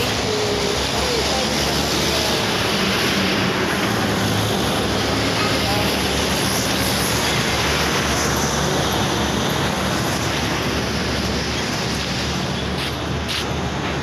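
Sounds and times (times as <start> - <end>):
heavy trucks passing: 0.0 - 14.0
tyre noise on road: 0.0 - 14.0.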